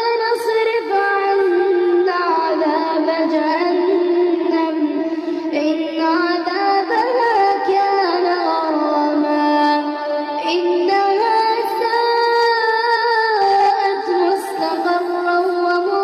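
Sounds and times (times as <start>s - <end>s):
high voice chanting melodically: 0.0s - 16.0s.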